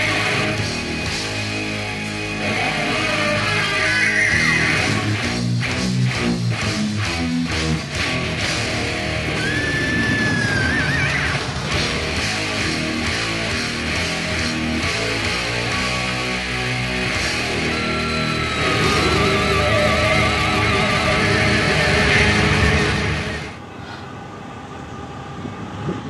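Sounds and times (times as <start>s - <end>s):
rock guitar: 0.0s - 23.6s.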